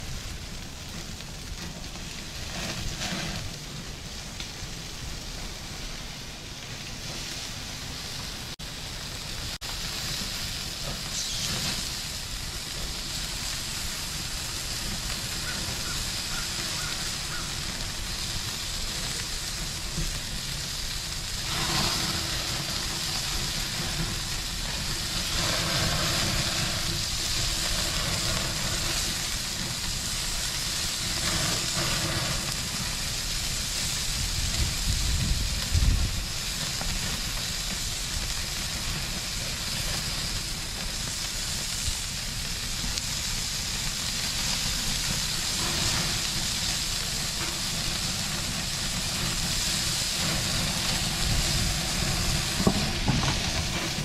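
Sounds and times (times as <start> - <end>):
meat sizzling on a grill: 0.0 - 54.0.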